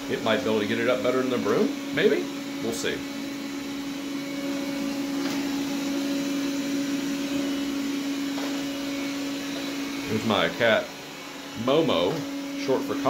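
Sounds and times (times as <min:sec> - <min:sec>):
robot vacuum motor hum: 0:00.0 - 0:13.0.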